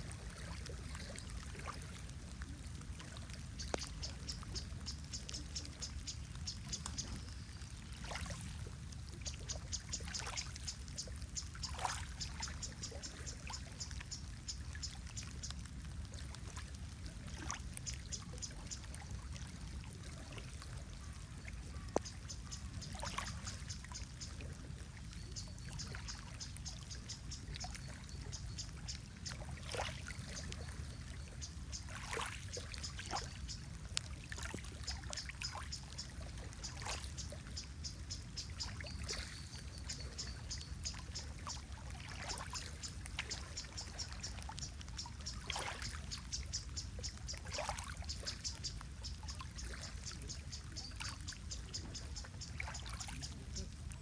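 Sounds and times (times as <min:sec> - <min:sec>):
water drips: 0:00.0 - 0:54.0
water trickling and lapping: 0:00.0 - 0:54.0.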